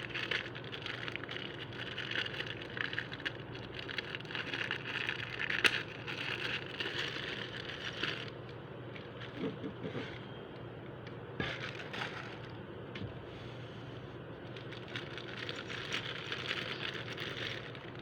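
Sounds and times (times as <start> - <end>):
crackling handling noise: 0.0 - 18.0.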